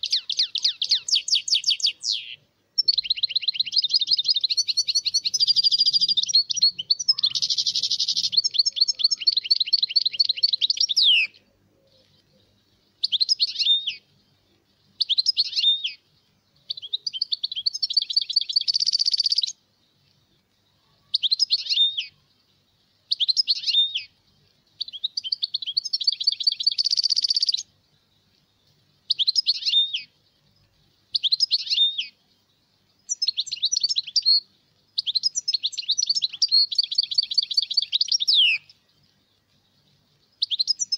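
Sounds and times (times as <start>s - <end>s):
goldfinch singing: 0.0s - 20.2s, 20.8s - 40.9s.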